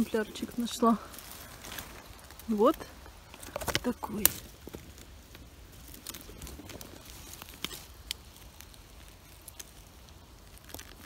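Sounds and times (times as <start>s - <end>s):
dry leaves crackling and rustling: 0.0s - 11.0s.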